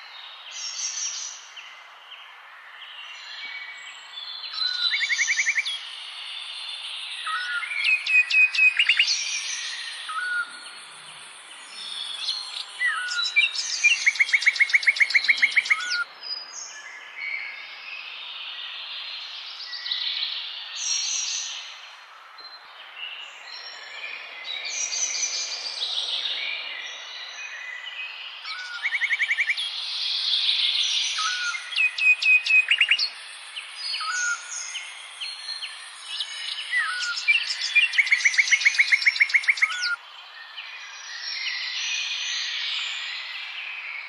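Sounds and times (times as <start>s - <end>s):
birds chirping: 4.6s - 17.1s, 19.6s - 43.8s.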